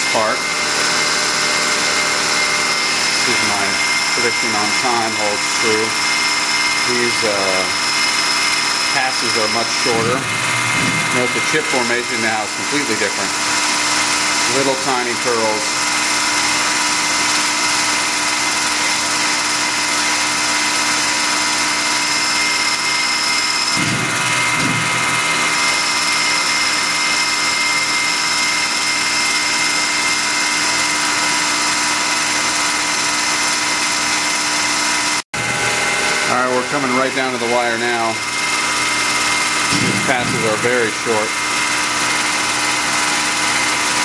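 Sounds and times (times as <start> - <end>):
lathe machine whine: 0.0 - 44.0.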